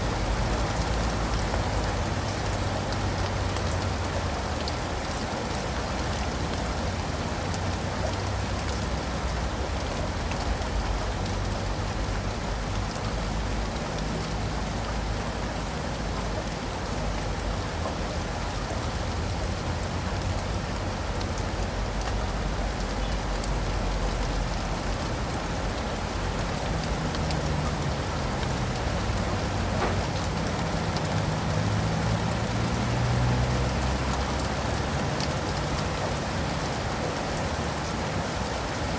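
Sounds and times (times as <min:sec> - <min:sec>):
rain on leaves and pavement: 0:00.0 - 0:38.9.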